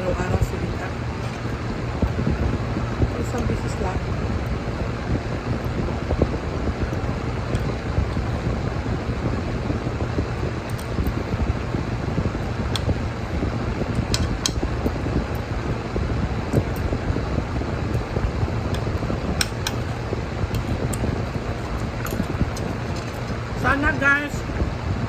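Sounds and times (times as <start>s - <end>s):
low hum and hiss: 0.0s - 25.0s.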